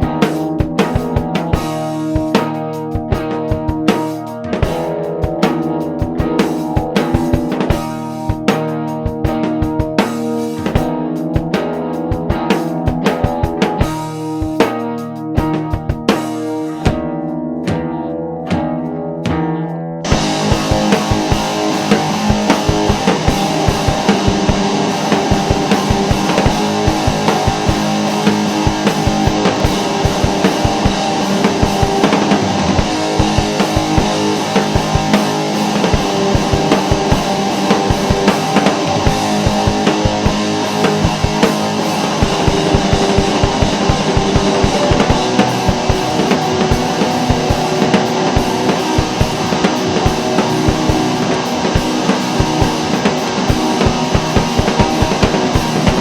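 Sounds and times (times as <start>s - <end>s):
drum kit beating: 0.0s - 56.0s
rock band playing: 0.0s - 56.0s.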